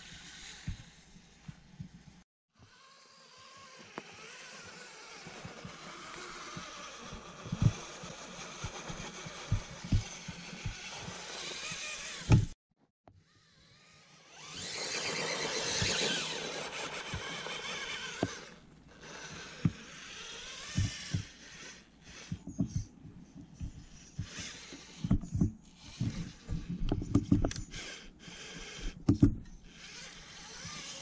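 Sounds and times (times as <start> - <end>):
rc car motor whining: 0.0 - 31.0.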